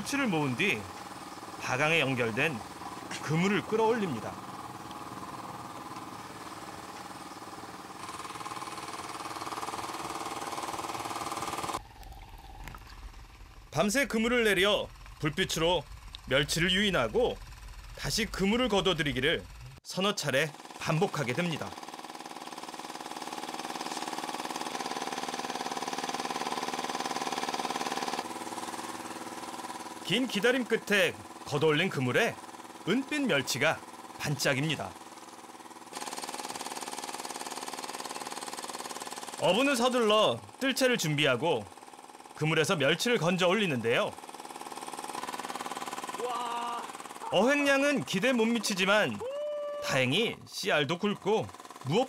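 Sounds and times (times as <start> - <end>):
small engine rattling drone: 0.0 - 19.8, 20.4 - 49.2, 50.1 - 52.0.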